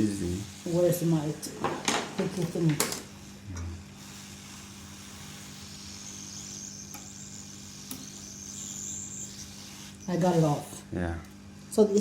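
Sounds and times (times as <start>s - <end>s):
hot air blower hissing: 0.0s - 10.9s.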